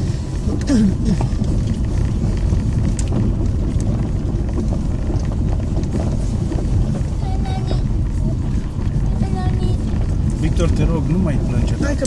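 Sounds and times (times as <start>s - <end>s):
stones ticking: 0.0s - 12.0s
tyres rolling on gravel: 0.0s - 12.0s.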